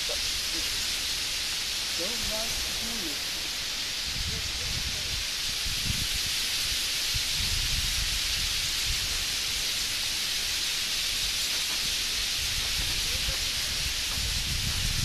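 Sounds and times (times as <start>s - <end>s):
flock of birds in flight: 0.0s - 15.0s.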